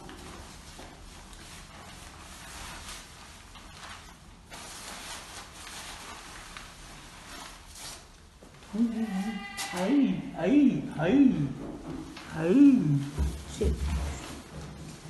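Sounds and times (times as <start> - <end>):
rustling of disposable gown: 0.0 - 10.0, 12.0 - 15.0.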